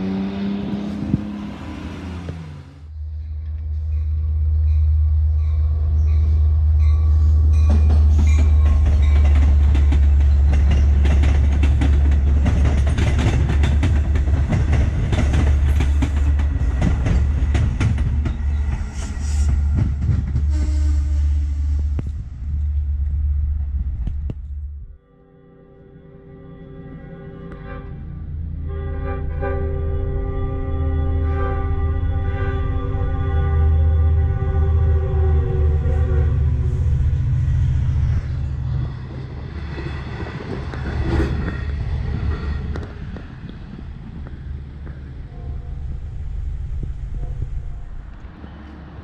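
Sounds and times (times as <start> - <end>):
passenger train rumbling away: 0.0 - 49.0.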